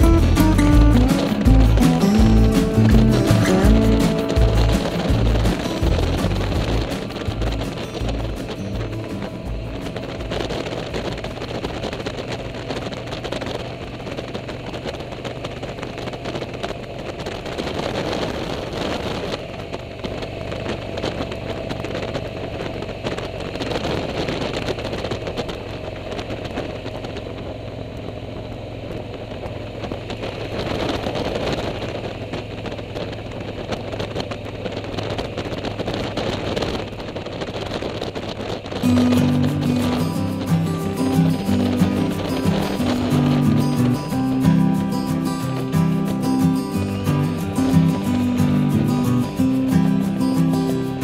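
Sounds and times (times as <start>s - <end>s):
motorcycle engine running: 0.0s - 51.0s
wind rushing over microphone: 0.0s - 51.0s.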